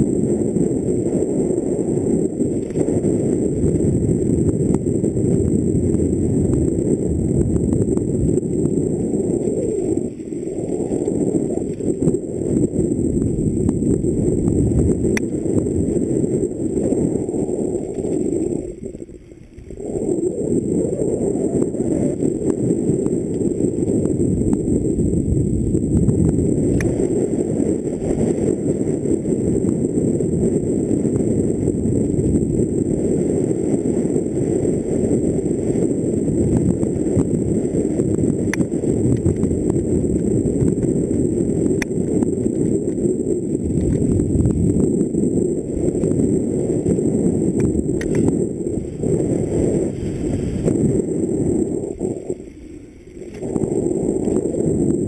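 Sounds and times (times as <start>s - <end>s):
bike tyres rumbling on dirt: 0.0s - 55.0s
wind rushing over microphone: 0.0s - 55.0s.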